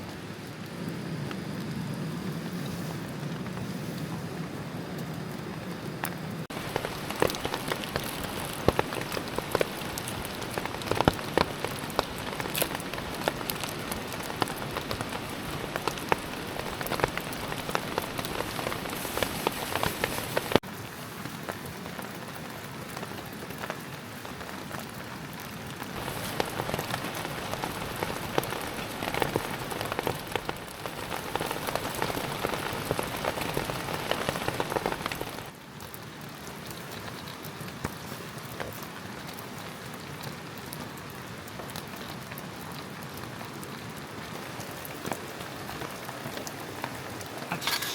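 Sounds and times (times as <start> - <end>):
rain drops striking surfaces: 0.0 - 47.9.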